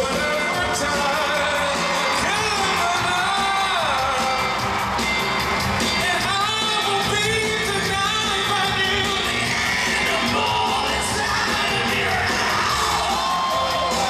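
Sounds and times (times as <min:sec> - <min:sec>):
man singing live: 0:00.0 - 0:04.9, 0:05.8 - 0:14.0
bass: 0:00.0 - 0:14.0
drums: 0:00.0 - 0:14.0.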